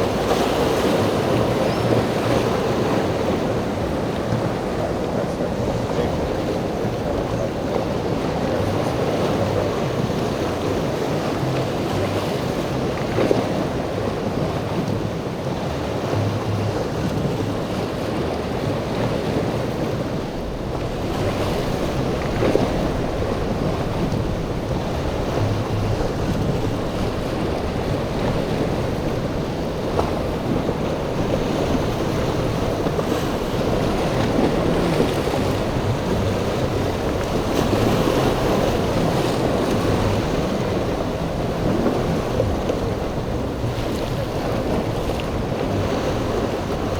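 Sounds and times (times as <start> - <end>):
boat engines running: 0.0 - 46.9
breaking waves: 0.0 - 46.9
wind buffeting microphone: 0.0 - 46.9.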